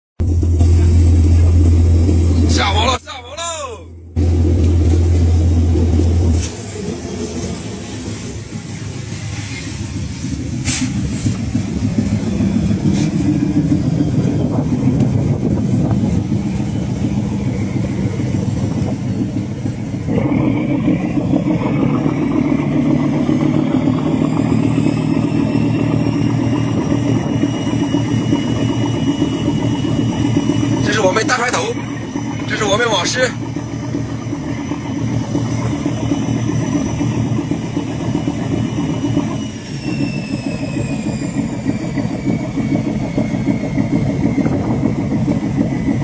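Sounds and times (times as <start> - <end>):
boat engine running: 0.0 - 46.0
water rushing along hull: 0.2 - 46.0.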